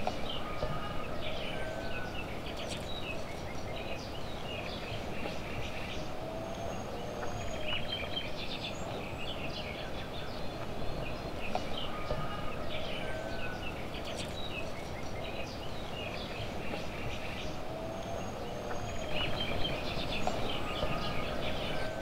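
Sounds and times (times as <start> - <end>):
outdoor ambient hiss: 0.0 - 22.0
small birds chirping: 0.0 - 22.0.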